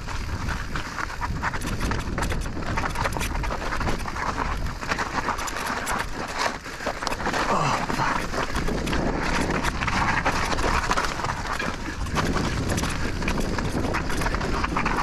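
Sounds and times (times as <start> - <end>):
bike rattling: 0.0 - 15.0
tyres crunching over rock: 0.0 - 15.0.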